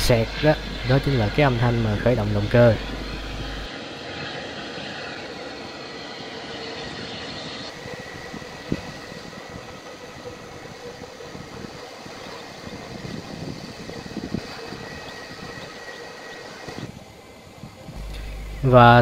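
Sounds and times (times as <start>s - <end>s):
distant jet engines running: 0.0s - 19.0s
faint high whine: 0.0s - 19.0s.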